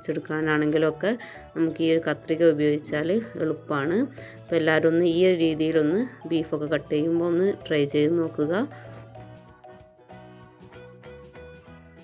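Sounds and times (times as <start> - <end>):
quiet instrumental music: 0.0 - 12.0.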